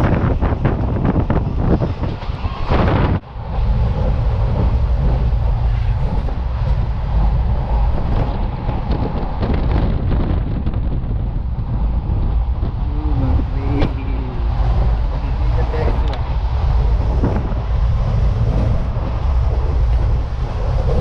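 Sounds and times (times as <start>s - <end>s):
moving vehicle rumble: 0.0s - 21.0s
wind noise on microphone: 0.0s - 21.0s.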